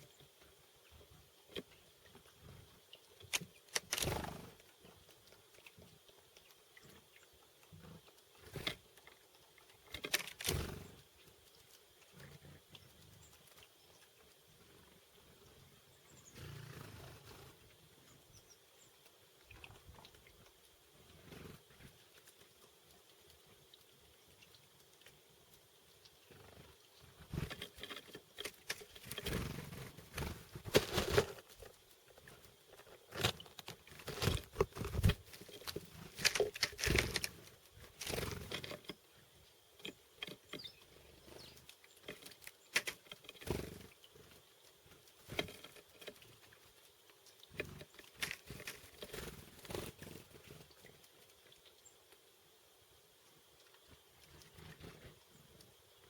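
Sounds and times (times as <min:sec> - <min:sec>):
birds pecking at seeds: 0:00.0 - 0:52.3, 0:53.3 - 0:56.0.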